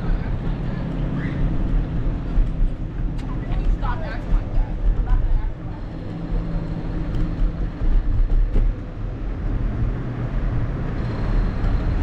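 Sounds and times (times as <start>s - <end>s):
street traffic hum: 0.0s - 12.0s
vehicle engine running: 0.0s - 12.0s.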